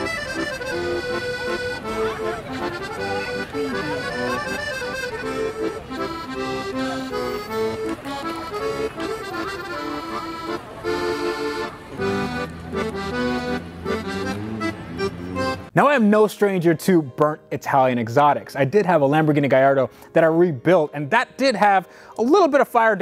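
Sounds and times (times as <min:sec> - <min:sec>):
accordion melody: 0:00.0 - 0:22.2.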